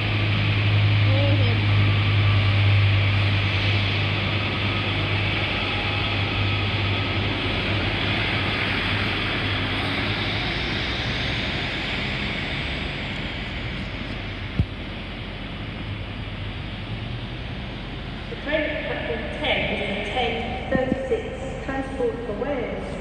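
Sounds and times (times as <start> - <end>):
rushing noise: 0.0 - 21.6
train engine hum: 0.0 - 23.0.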